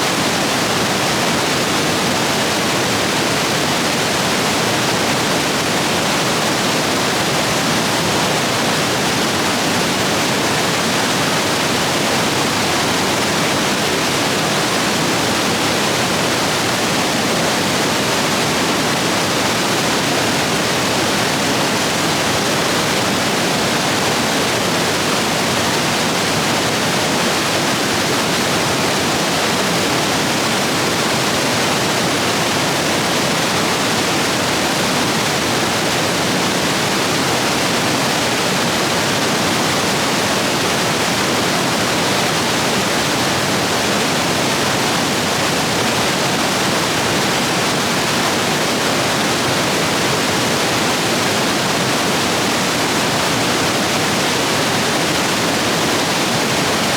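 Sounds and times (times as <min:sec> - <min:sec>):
rushing stream rapids: 0:00.0 - 0:56.9.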